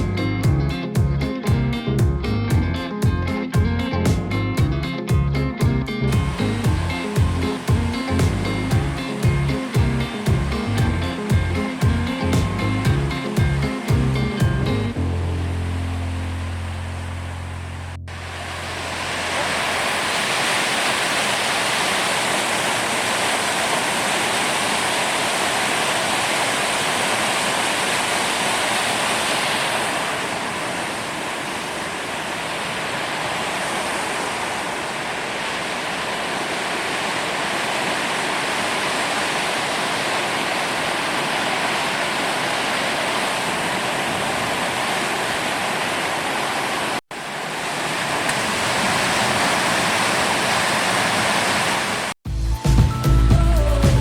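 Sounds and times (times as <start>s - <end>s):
flowing water rushing: 6.1s - 52.2s.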